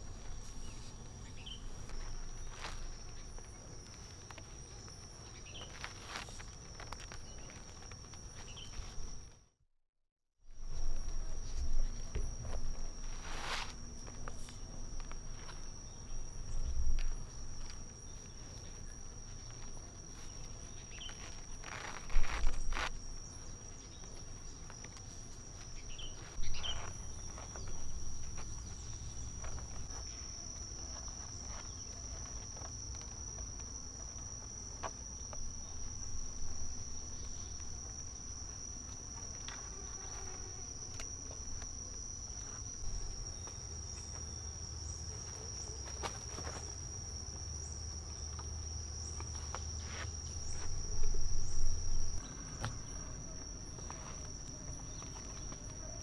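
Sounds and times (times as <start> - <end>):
insects trilling: 0.0 - 9.4, 10.5 - 56.0.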